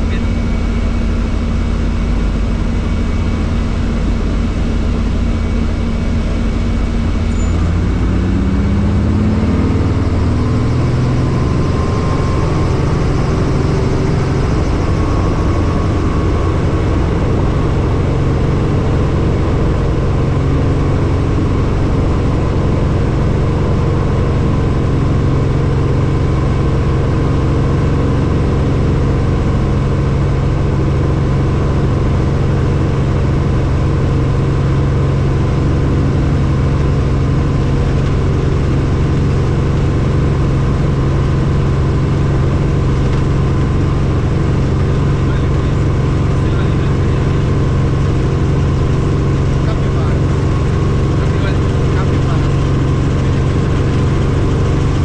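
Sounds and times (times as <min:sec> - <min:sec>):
helicopter drone: 0:00.0 - 0:55.0.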